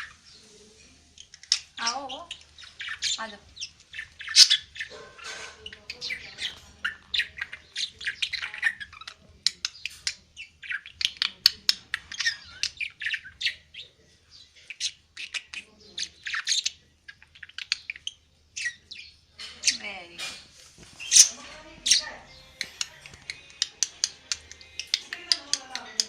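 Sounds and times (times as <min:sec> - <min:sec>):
budgerigar chirping and squawking: 0:00.0 - 0:00.4, 0:01.1 - 0:26.0.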